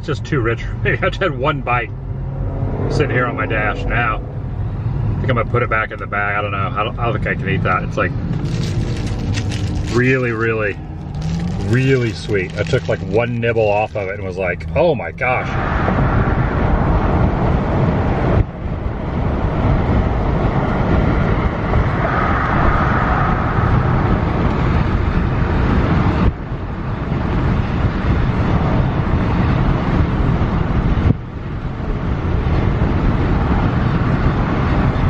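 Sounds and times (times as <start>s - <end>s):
car road and wind noise: 0.0s - 35.0s.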